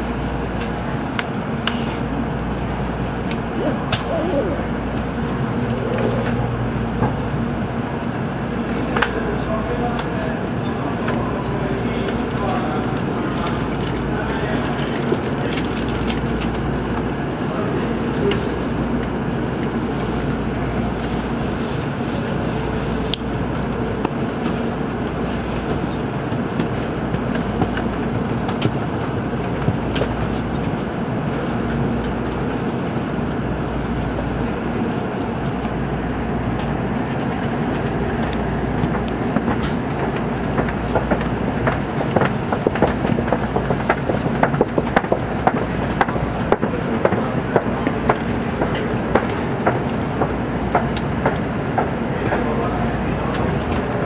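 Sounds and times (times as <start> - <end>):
train low hum: 0.0 - 54.0.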